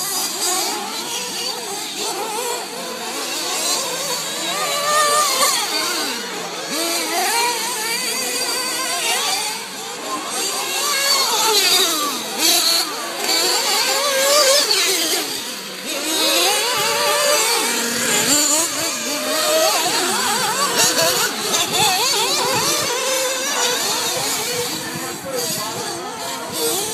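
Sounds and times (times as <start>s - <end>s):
rc truck engines buzzing: 0.0s - 26.9s.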